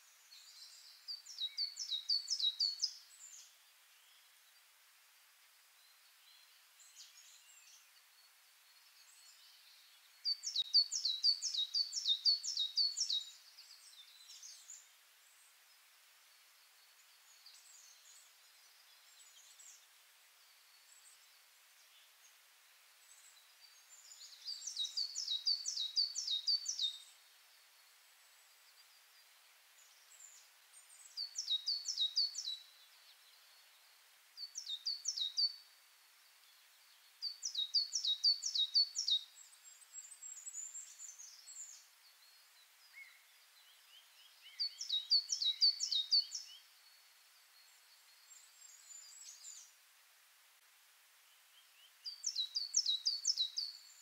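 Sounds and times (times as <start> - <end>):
faint steady hiss: 0.0 - 54.0
songbird singing: 0.0 - 54.0.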